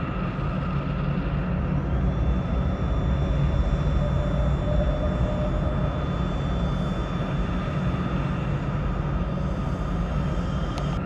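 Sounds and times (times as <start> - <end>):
gas turbine rumble and whine: 0.0 - 11.0.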